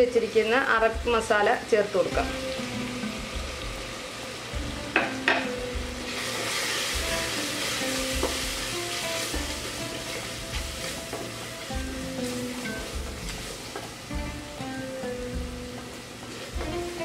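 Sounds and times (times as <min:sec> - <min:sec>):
background music: 0:00.0 - 0:17.0
vegetables sizzling in hot oil: 0:00.0 - 0:17.0.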